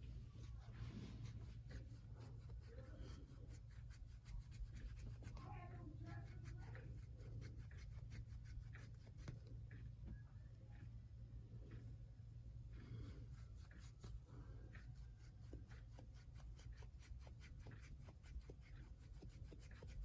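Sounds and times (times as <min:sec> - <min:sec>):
scratchy rubbing strokes: 0:00.0 - 0:09.8, 0:12.7 - 0:20.0
steady low hum: 0:00.0 - 0:20.0.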